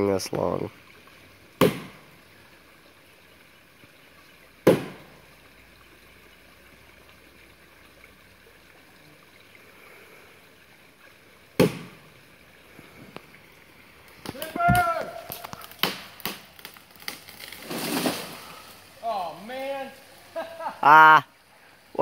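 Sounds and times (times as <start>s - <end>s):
faint creek running: 0.0s - 22.0s.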